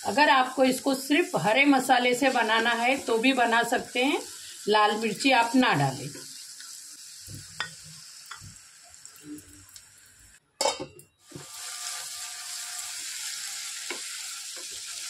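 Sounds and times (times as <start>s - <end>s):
onions sizzling in hot oil: 0.0s - 10.4s, 11.2s - 15.0s.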